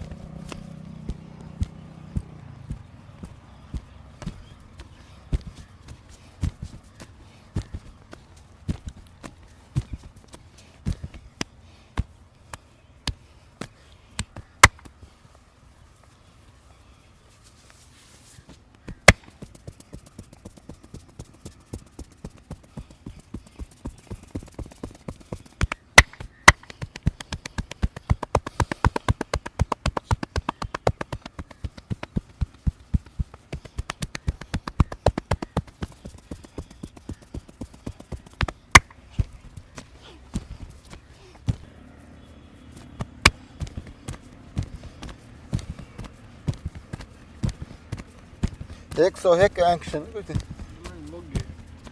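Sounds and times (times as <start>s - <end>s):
hands patting and slapping in massage: 0.0s - 15.0s, 18.5s - 41.7s, 42.3s - 51.9s.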